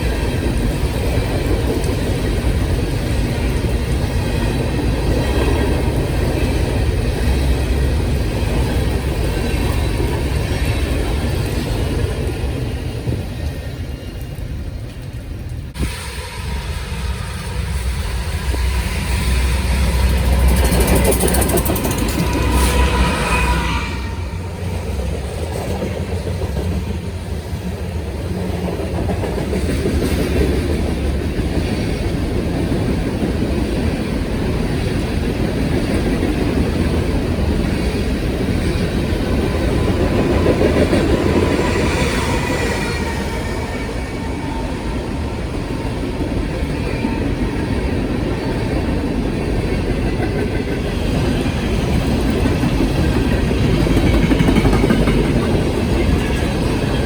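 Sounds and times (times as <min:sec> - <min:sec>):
train cars rattling: 0:00.0 - 0:57.0
train wheels rumbling on rails: 0:00.0 - 0:57.0.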